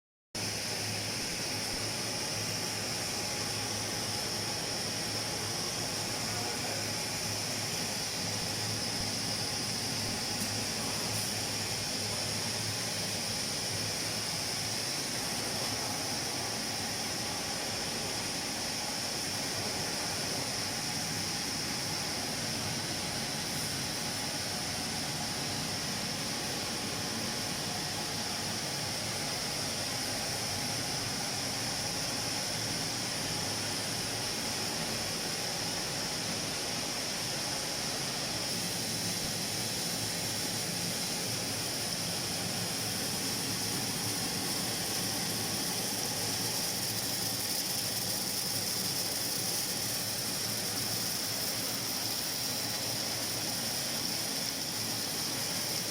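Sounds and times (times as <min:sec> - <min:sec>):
machine whirring and hissing: 0:00.4 - 0:55.9.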